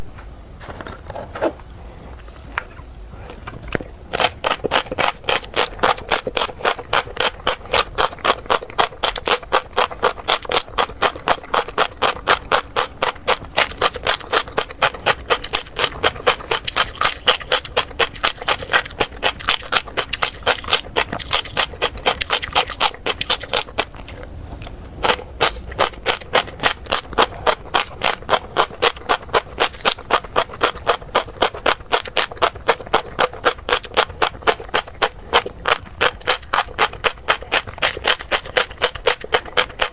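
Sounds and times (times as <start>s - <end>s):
crunchy chewing clicks: 0.7s - 39.9s.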